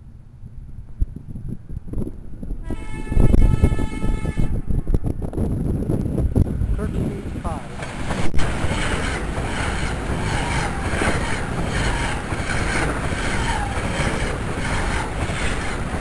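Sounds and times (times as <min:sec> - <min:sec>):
wind buffeting microphone: 0:00.0 - 0:16.0
train passing at speed: 0:02.4 - 0:16.0.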